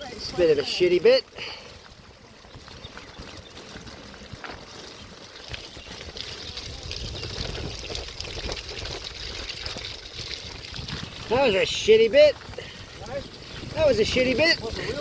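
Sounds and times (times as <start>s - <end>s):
bicycle tyres splashing through mud: 0.0s - 15.0s.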